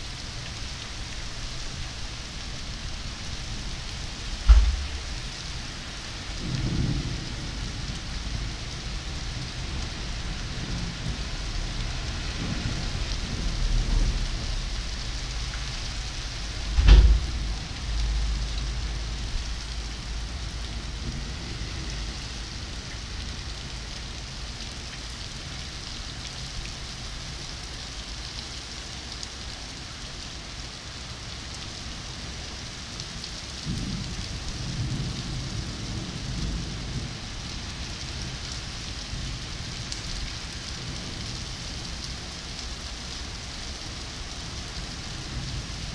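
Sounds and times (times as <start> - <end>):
heavy rain on pavement and cars: 0.0 - 45.9.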